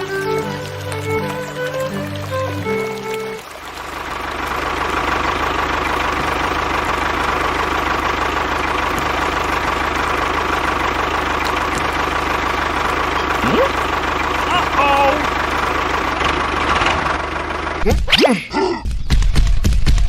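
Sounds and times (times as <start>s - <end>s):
small model diesel engine knocking: 0.0s - 17.8s.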